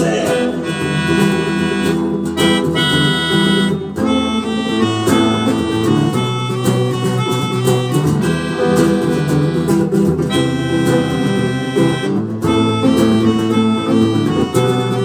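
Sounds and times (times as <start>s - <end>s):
electric guitar: 0.0s - 15.0s.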